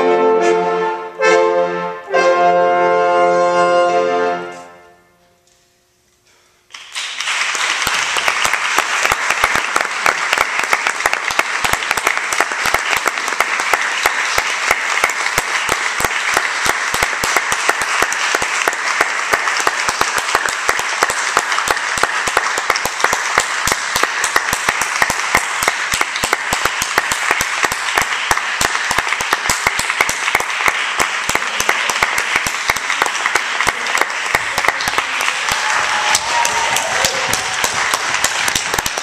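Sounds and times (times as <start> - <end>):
audience applauding: 6.7 - 39.0.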